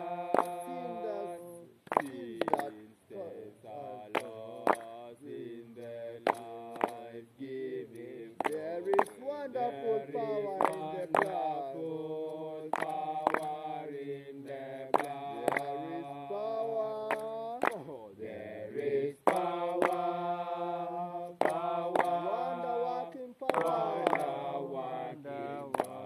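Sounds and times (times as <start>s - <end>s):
voices chanting: 0.0s - 26.0s.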